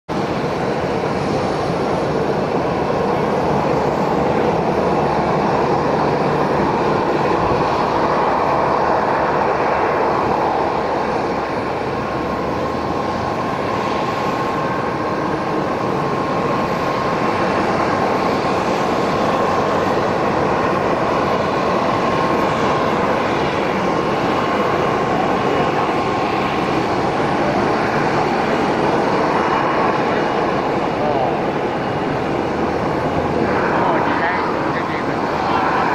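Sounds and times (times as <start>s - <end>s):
airliner engine noise: 0.0s - 35.9s.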